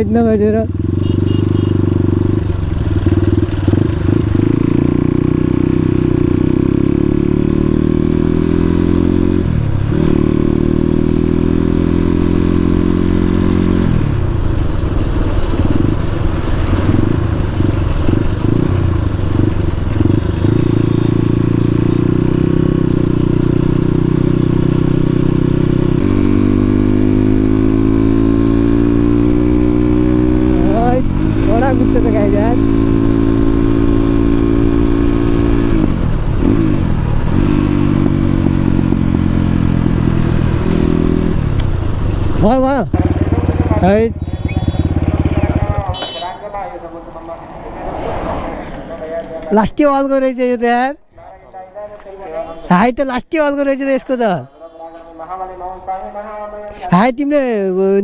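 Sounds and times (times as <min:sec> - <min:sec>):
dirt bike engine revving: 0:00.0 - 0:50.8.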